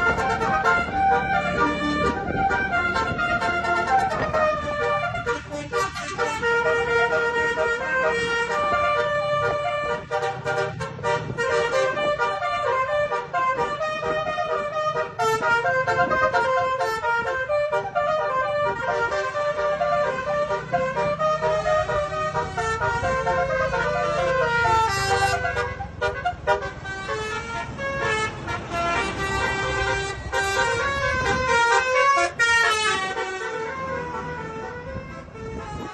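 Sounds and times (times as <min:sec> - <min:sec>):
engine rumble: 0:00.0 - 0:35.9
multi-tone bus horn tune: 0:00.0 - 0:35.9.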